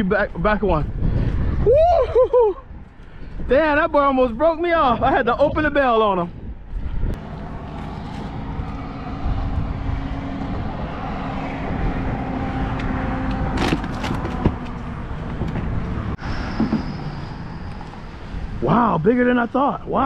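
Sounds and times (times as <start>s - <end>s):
highway traffic passing: 0.0s - 1.6s, 2.6s - 20.0s.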